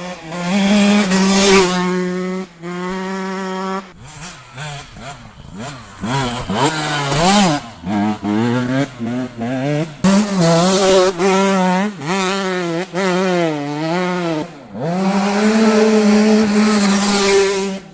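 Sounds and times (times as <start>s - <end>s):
two-stroke motocross engine revving: 0.0s - 17.9s.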